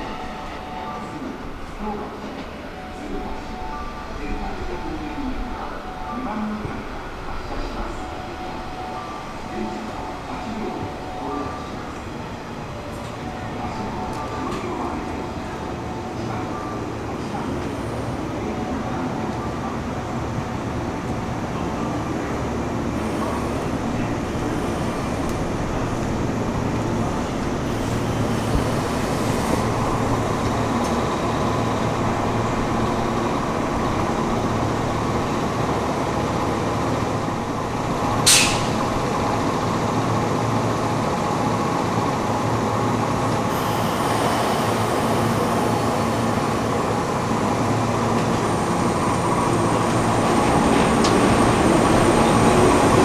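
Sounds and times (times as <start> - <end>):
electric train humming: 0.0 - 53.0.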